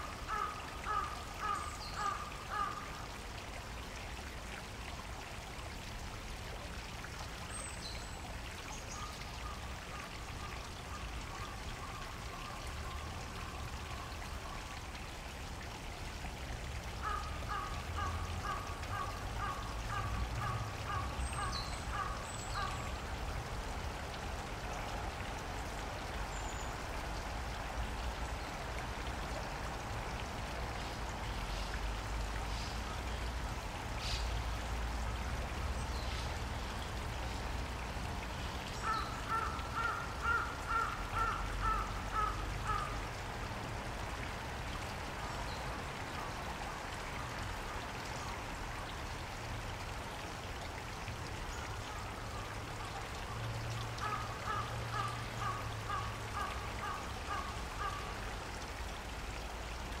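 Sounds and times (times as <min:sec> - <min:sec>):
flowing water: 0:00.0 - 1:00.0.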